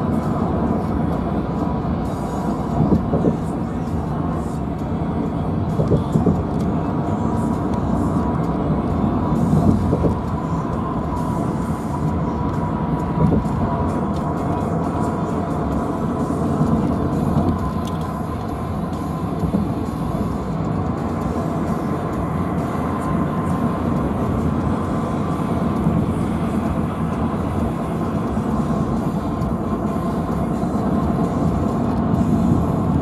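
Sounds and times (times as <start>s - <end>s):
road and engine rumble in car: 0.0s - 33.0s.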